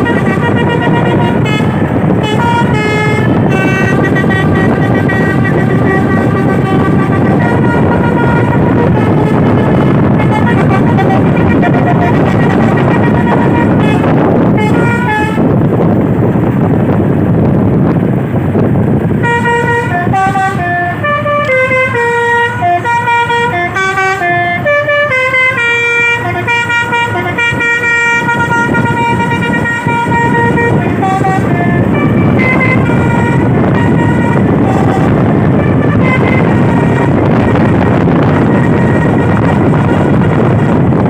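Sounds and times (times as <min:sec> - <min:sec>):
passing truck noise: 0:00.0 - 0:41.0
truck multi-tone horn tune: 0:00.0 - 0:41.0.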